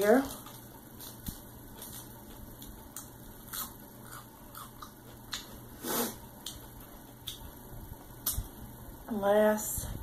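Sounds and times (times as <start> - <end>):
food squishing and rustling: 0.0 - 8.7.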